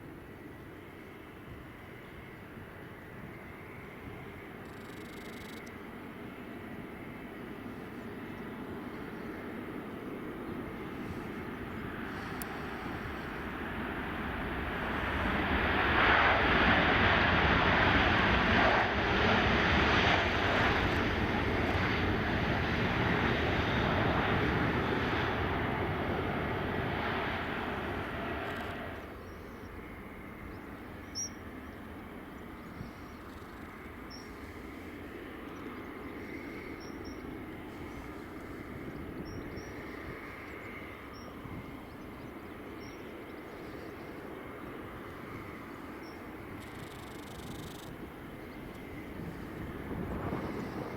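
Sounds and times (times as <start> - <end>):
distant airport engine noise: 0.0 - 50.9
jet engines roaring: 5.6 - 50.9.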